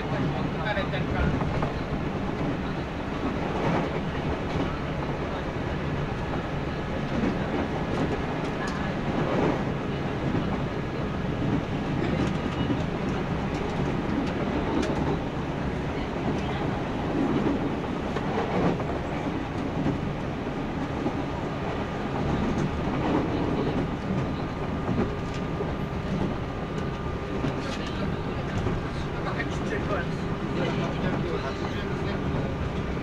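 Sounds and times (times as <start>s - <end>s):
train interior rumble: 0.0s - 33.0s.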